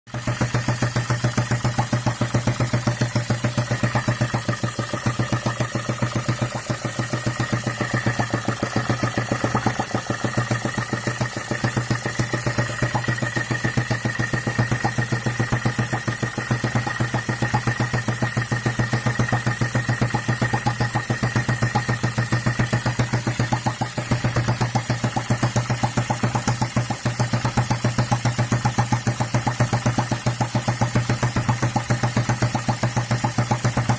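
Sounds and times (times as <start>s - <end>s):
four-stroke engine running: 0.1s - 33.9s.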